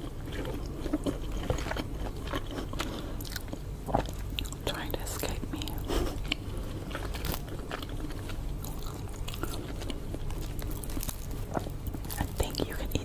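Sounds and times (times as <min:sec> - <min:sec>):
mouth clicks and crunches: 0:00.0 - 0:13.0
person chewing food: 0:00.0 - 0:13.0.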